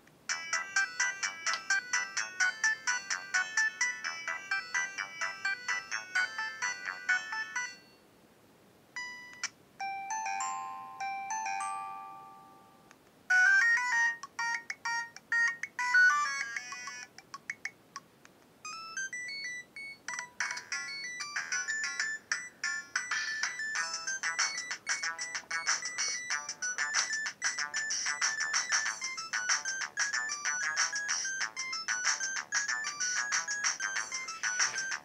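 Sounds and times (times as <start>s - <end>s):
phone ringtone melodies: 0.3s - 8.0s, 9.0s - 17.1s, 18.6s - 35.0s.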